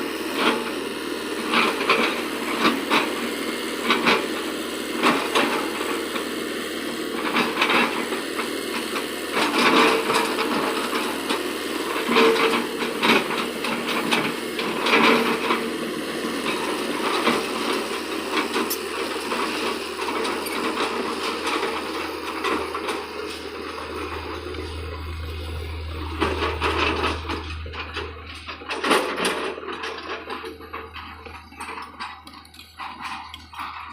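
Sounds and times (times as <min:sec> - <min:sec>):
excavator clanks and scrapes: 0:00.0 - 0:33.9
excavator engine running: 0:00.0 - 0:33.9.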